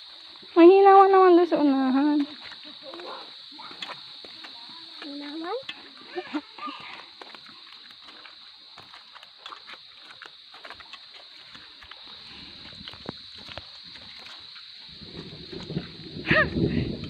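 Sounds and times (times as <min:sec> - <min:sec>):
footsteps on dirt trail: 0:00.0 - 0:17.0.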